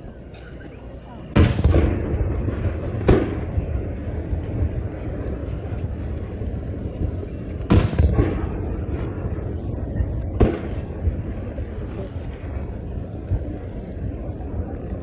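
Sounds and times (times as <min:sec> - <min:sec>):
firework shells bursting: 0:01.3 - 0:14.0.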